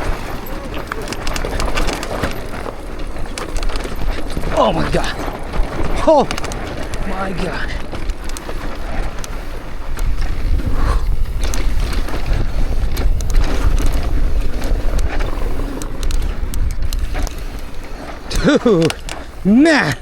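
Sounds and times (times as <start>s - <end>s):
wind rumble on microphone: 0.0s - 19.5s
bike rattling over bumps: 0.0s - 20.0s
bike tyres rolling on dirt: 0.0s - 20.0s.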